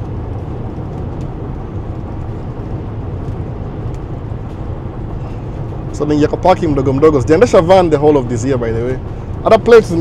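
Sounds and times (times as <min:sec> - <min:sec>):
van engine and road noise: 0:00.0 - 0:10.0.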